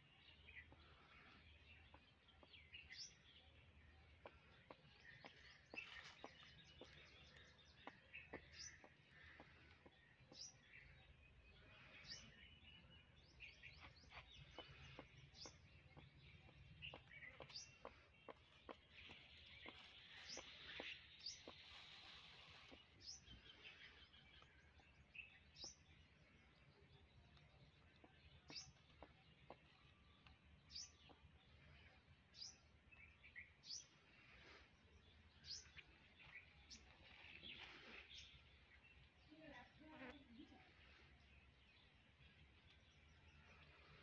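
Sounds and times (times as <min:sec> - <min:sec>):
faint bird chirps: 0:00.0 - 0:44.0.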